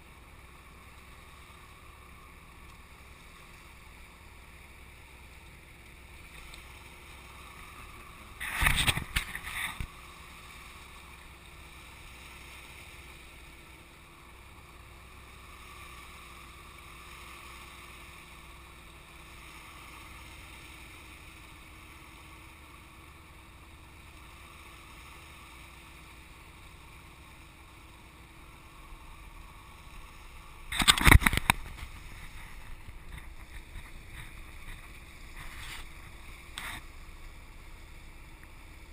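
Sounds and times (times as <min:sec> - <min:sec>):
boat motor hum: 0:00.0 - 0:38.9
faint water wash: 0:00.0 - 0:38.9
rough bursts of noise: 0:06.2 - 0:18.5, 0:19.2 - 0:38.9.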